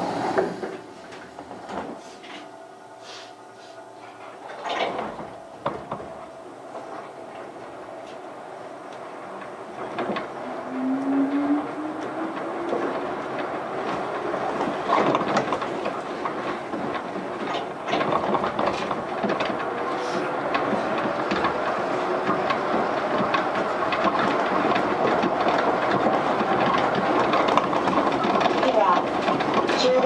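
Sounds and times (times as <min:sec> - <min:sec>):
train running noise: 0:00.0 - 0:30.0
train whine rising: 0:00.0 - 0:30.0.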